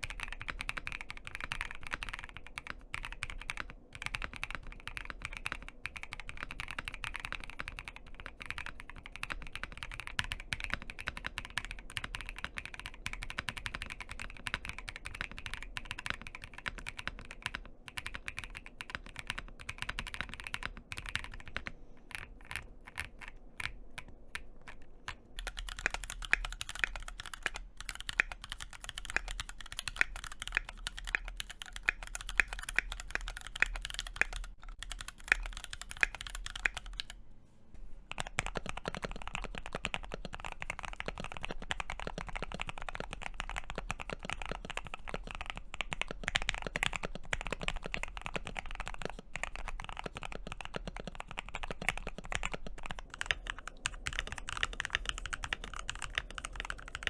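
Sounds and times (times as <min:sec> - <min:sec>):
mechanical keyboard typing: 0:00.0 - 0:37.2, 0:38.1 - 0:57.0
second keyboard typing: 0:00.0 - 0:37.2, 0:38.1 - 0:57.0.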